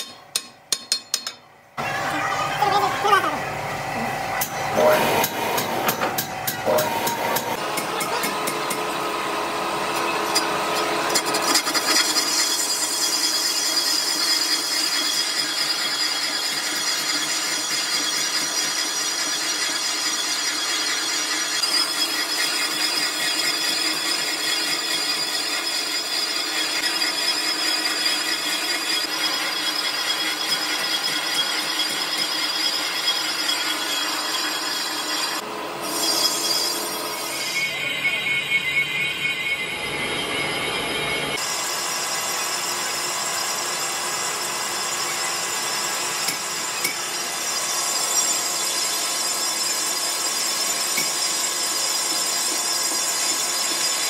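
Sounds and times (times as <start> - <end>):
power tool grinding metal rim: 1.8 - 54.0.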